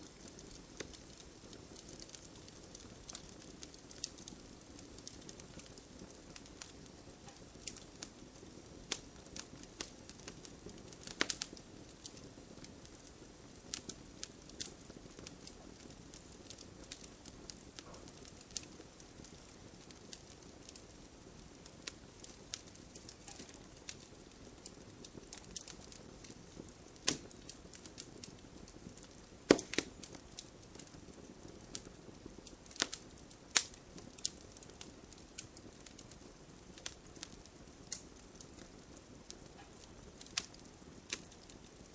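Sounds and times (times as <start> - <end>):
sharp fire pops and snaps: 0.0 - 41.9
soft hiss of rain: 0.0 - 41.9
wood bonfire crackling: 0.0 - 41.9.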